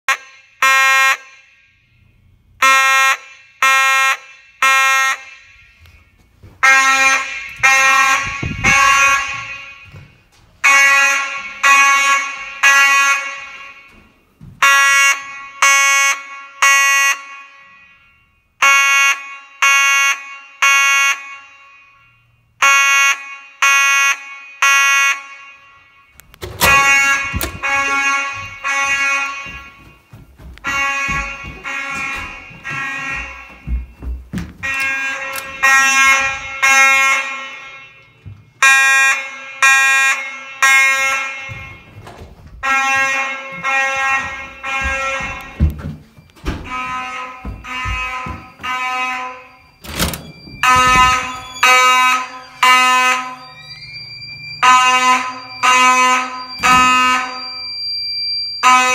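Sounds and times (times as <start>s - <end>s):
fire alarm horn blasts: 0.0s - 58.9s.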